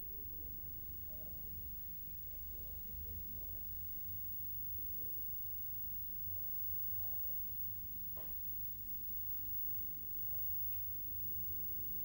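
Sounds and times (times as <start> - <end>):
faint indistinct television sound: 0.0 - 12.0
television hum: 0.0 - 12.0.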